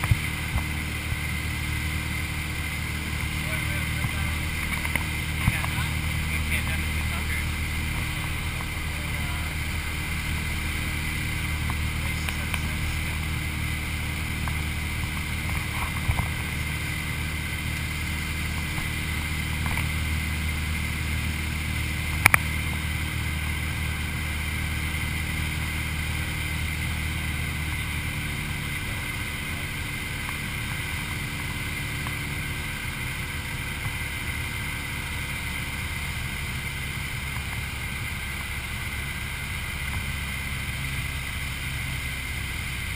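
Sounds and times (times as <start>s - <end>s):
propeller aircraft engine droning: 0.0s - 42.9s.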